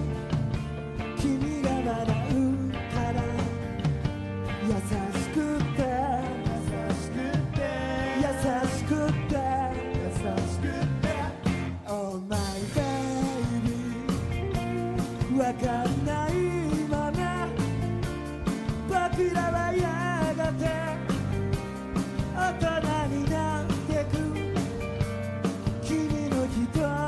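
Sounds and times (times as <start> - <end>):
acoustic guitar: 0.0 - 11.9, 12.5 - 27.0
electric guitar: 0.0 - 27.0
steady drum beat: 0.0 - 27.0
man singing: 1.0 - 3.8, 4.5 - 17.9, 18.8 - 21.3, 22.2 - 24.8, 25.6 - 27.0.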